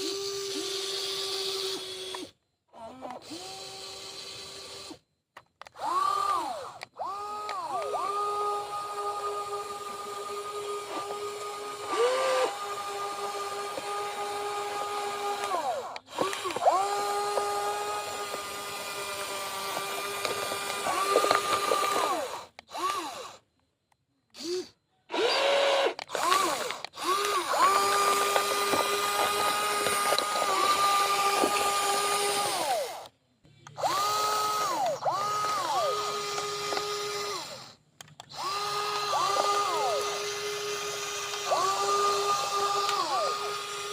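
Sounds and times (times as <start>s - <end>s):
toy electric motors whining: 0.0s - 43.9s.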